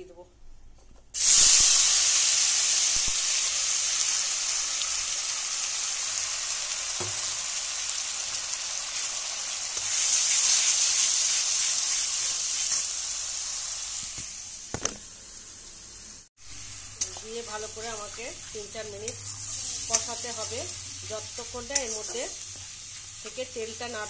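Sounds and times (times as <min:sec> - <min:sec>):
paste sizzling in hot oil: 0:01.2 - 0:24.0.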